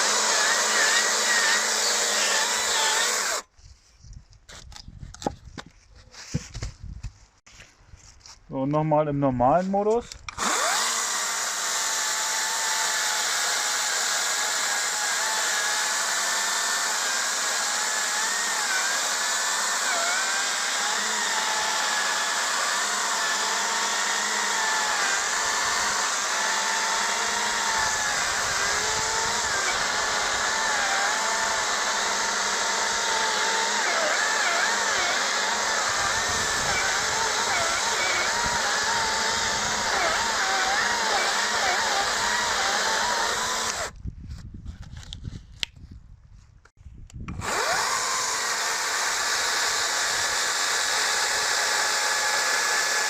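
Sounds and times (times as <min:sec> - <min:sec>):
chainsaw cutting wood: 0:00.0 - 0:03.5, 0:10.3 - 0:44.0, 0:47.3 - 0:53.0.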